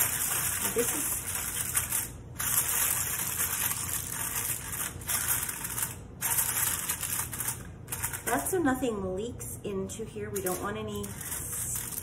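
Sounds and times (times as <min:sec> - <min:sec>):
aluminium foil crinkling: 0:00.0 - 0:08.7, 0:10.3 - 0:12.0.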